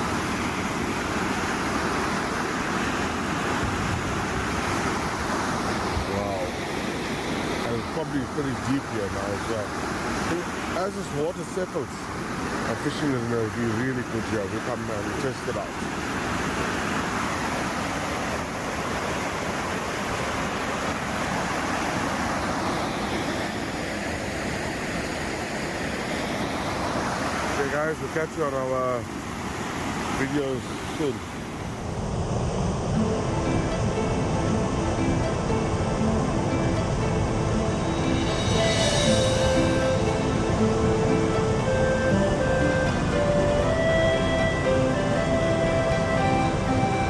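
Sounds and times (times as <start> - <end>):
water rushing over a weir: 0.0 - 47.0.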